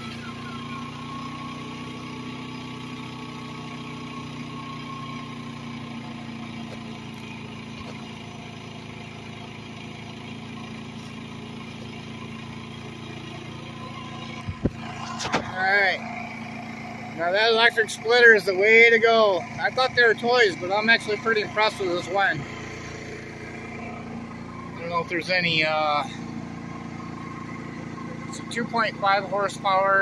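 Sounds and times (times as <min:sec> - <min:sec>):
generator engine running: 0:00.0 - 0:30.0.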